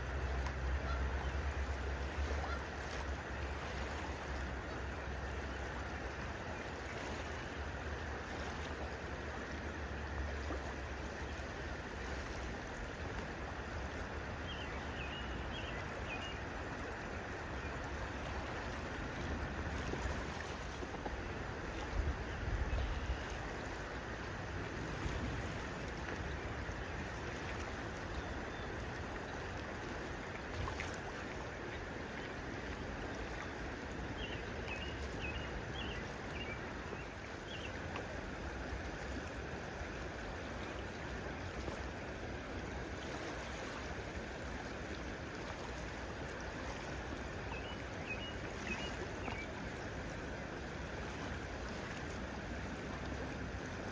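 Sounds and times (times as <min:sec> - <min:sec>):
rush of flowing water: 0:00.0 - 0:53.9.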